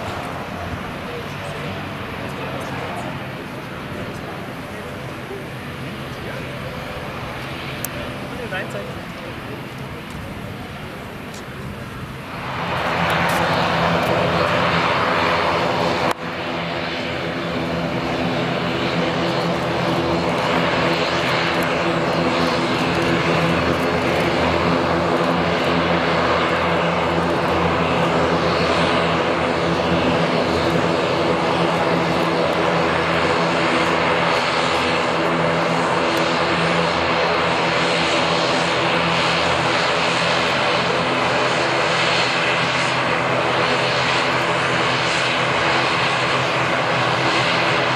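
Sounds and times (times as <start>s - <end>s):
turboprop engines droning in cabin: 0.0s - 47.9s.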